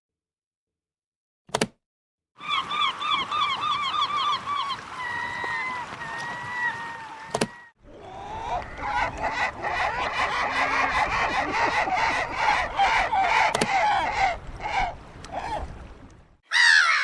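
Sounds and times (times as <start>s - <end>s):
gulls calling: 2.4s - 17.0s.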